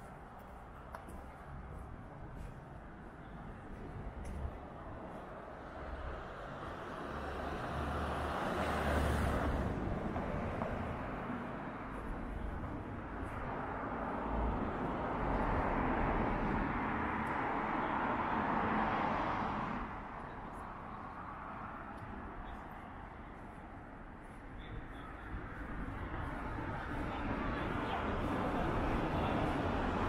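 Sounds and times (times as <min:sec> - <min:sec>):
vehicles passing on street: 0:00.0 - 0:30.0.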